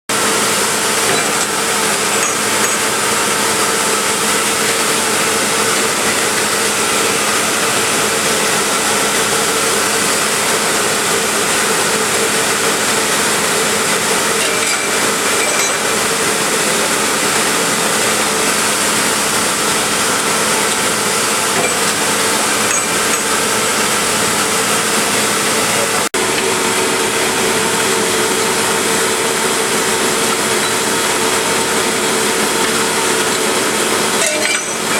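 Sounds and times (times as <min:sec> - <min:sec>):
grinder grinding metal: 0:00.1 - 0:34.9.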